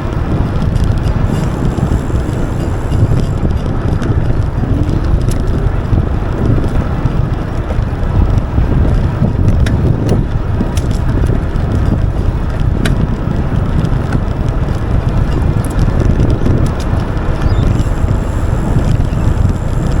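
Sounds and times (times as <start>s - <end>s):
sharp clicks from bike: 0.0s - 20.0s
wind buffeting microphone: 0.0s - 20.0s.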